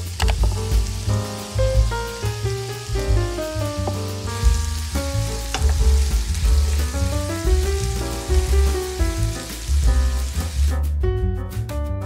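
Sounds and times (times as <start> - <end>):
onion sizzling in oil: 0.0 - 11.0
music with heavy bass: 0.0 - 12.0.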